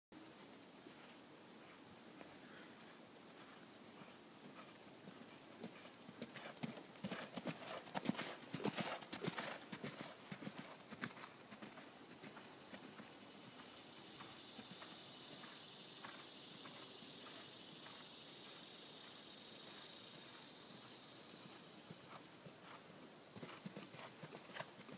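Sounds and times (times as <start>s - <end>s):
steady high-pitched hiss: 0.1s - 24.9s
horse hoofbeats on sand: 3.3s - 24.9s.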